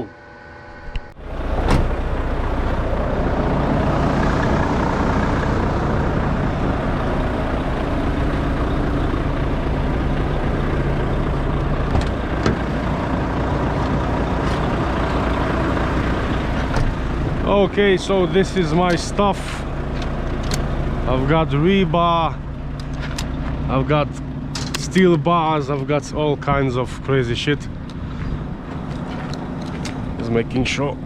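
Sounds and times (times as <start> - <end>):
lorry diesel engine running: 0.0 - 31.0.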